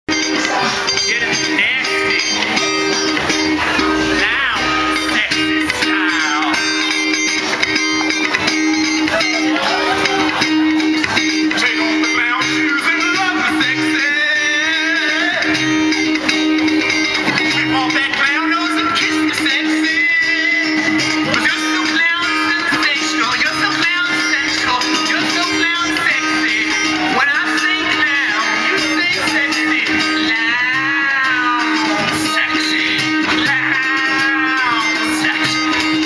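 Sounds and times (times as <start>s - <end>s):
band playing live: 0.1s - 36.0s
strummed guitar: 0.1s - 36.0s.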